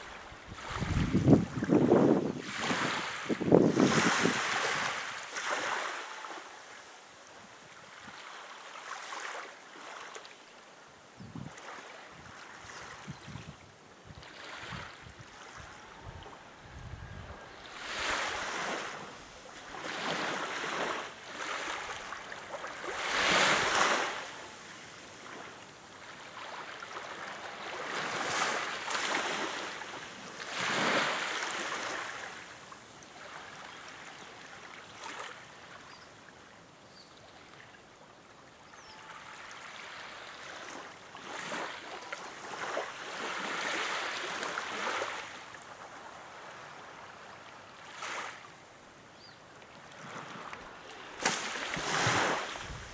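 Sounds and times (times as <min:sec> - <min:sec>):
small waves lapping on shore: 0:00.0 - 0:52.9.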